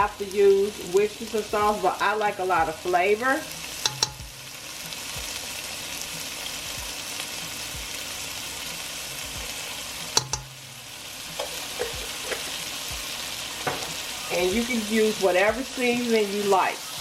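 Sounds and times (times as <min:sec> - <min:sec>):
vegetables sizzling in butter: 0:00.0 - 0:17.0.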